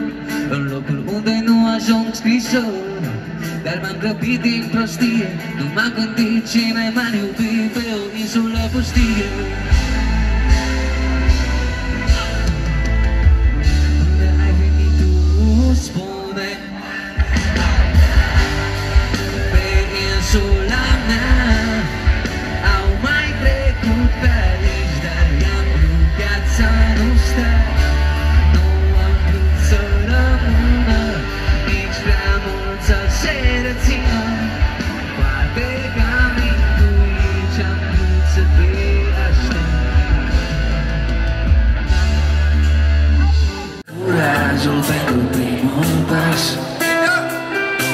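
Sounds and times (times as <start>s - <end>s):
drums: 0.0s - 47.9s
electric guitar: 0.0s - 47.9s.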